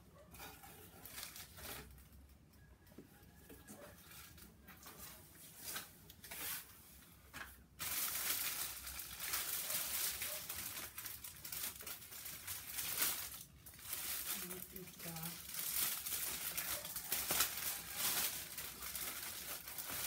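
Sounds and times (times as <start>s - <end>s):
plastic packaging crinkling: 0.4s - 2.3s, 4.0s - 20.0s.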